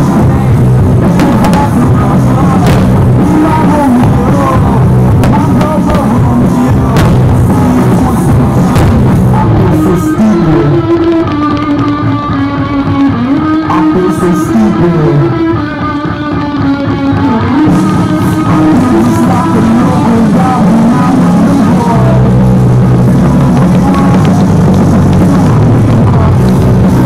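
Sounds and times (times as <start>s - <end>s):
guitar-led music: 0.0s - 27.0s.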